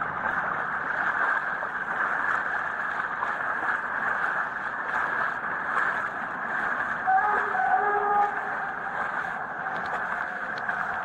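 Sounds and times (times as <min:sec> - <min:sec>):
heavy rain and floodwater rushing: 0:00.0 - 0:11.0.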